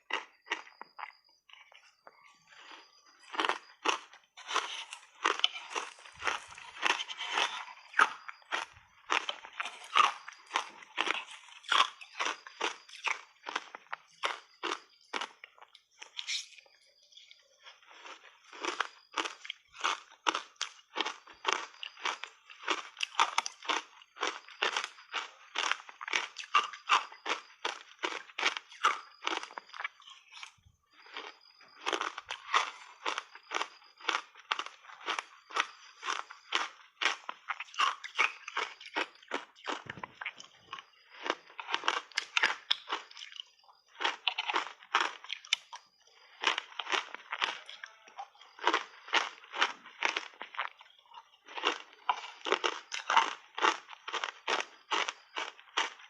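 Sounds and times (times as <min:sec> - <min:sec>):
crunching ice cubes: 0:02.5 - 0:16.5, 0:17.3 - 0:56.0.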